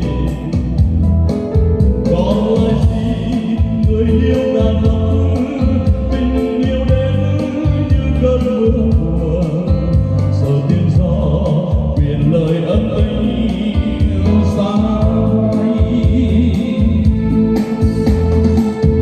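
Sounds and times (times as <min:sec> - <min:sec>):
song with heavy bass over pa: 0:00.0 - 0:19.0.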